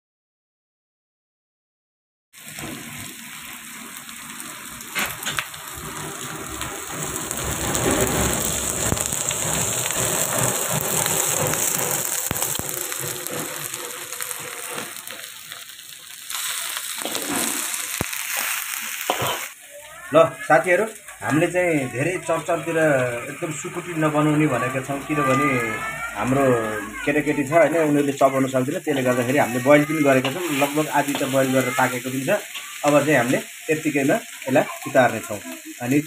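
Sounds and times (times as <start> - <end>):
food sizzling in a wok: 2.4 - 36.0.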